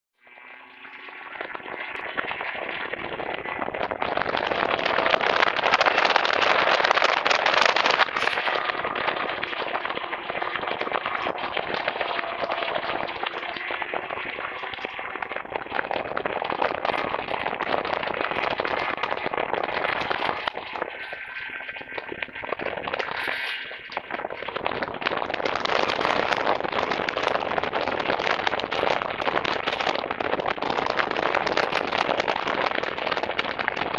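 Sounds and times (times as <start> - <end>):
snowmobile engine running hard: 0.3 - 33.9.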